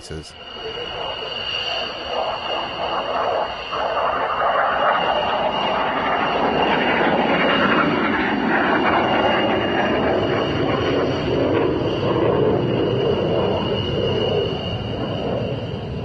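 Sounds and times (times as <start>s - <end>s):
high-pitched whine: 0.0s - 16.0s
jet engine roar: 0.0s - 16.0s.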